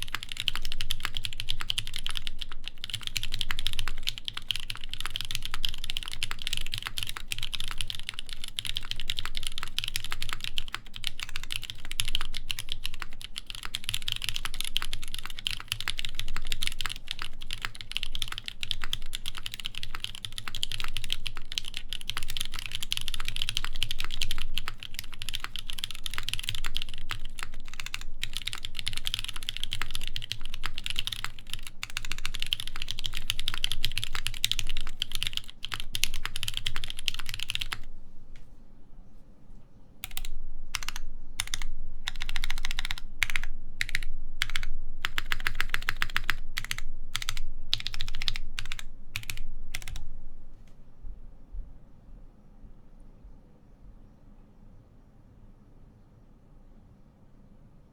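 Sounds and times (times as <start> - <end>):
mechanical keyboard typing: 0.0 - 37.9, 40.0 - 50.0.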